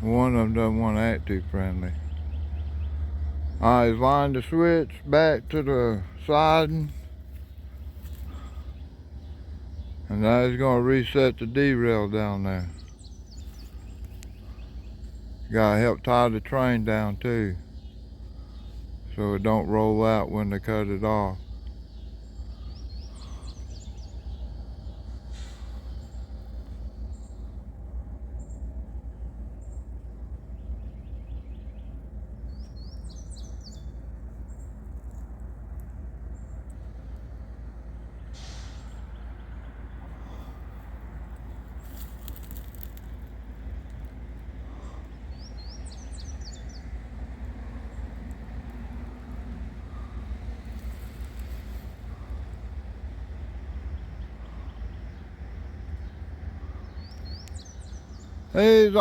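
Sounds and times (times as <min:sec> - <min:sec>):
small birds chirping: 0:00.0 - 0:59.0
steady low rumble: 0:00.0 - 0:59.0.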